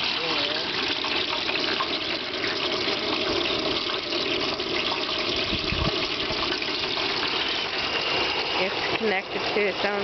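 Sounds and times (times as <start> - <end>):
propane burner hissing: 0.0 - 10.0.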